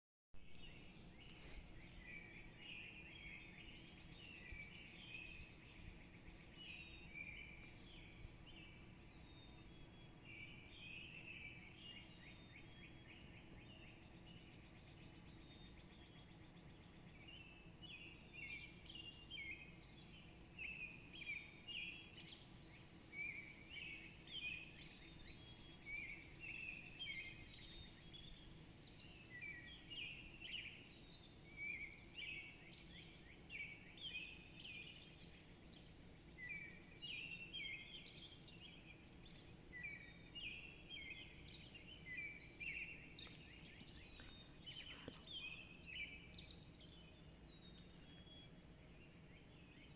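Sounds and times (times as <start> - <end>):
songbirds chirping: 0.4 - 49.9.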